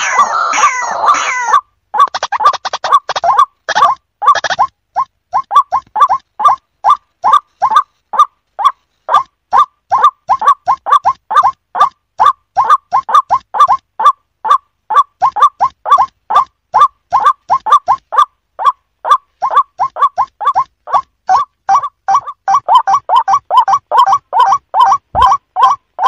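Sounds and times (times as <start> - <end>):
waterhen calling: 0.0 - 26.0.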